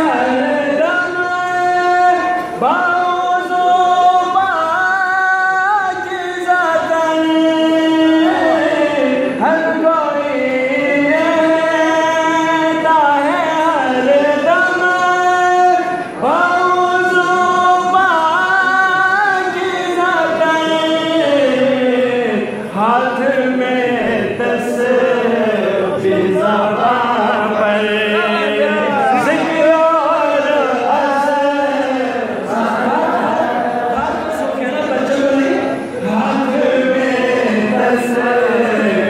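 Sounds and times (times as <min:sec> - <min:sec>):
man singing into microphones: 0:00.0 - 0:39.0.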